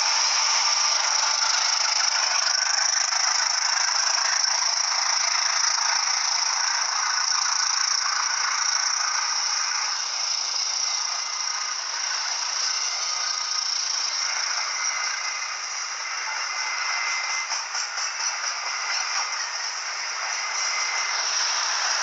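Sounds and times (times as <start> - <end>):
train wheels rattling on rails: 0.0 - 22.0.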